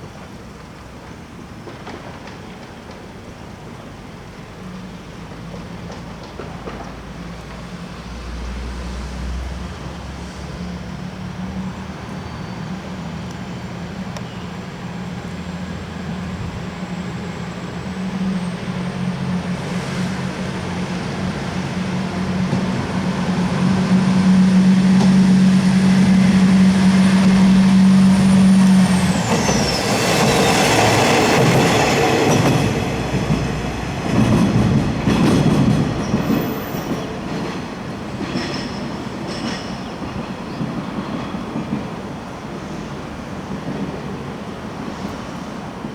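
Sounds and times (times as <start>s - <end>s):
train hum: 0.0s - 45.9s.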